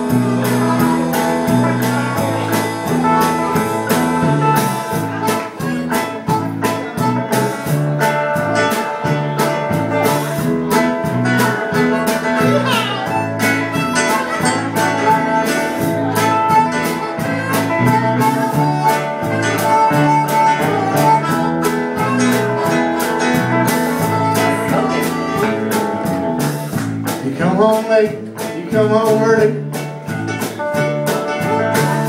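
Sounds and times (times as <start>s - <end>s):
acoustic band playing bluegrass: 0.0s - 32.0s
guitar strumming and picking: 0.0s - 32.0s.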